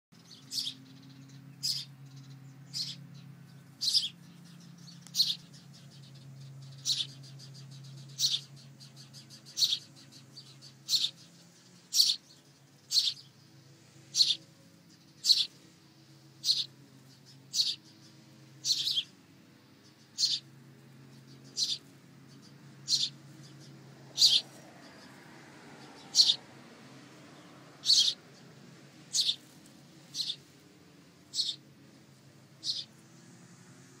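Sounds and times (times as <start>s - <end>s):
bird chirping: 0.2s - 33.4s.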